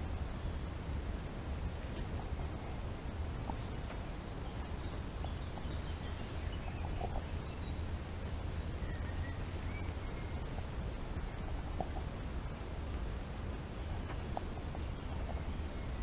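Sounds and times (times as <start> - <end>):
low rumble of wind: 0.0 - 16.0
songbird chirps and warbles: 0.0 - 16.0.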